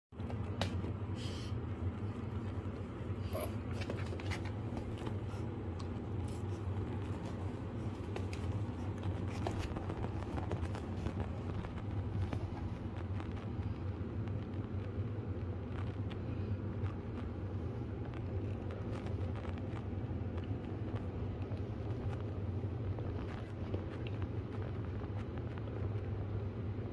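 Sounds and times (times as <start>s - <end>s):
steady low hum: 0.1s - 26.9s.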